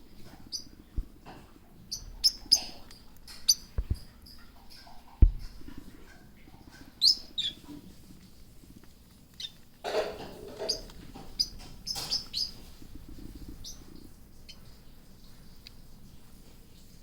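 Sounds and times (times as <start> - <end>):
love birds chirping: 0.0 - 5.5, 6.1 - 16.9.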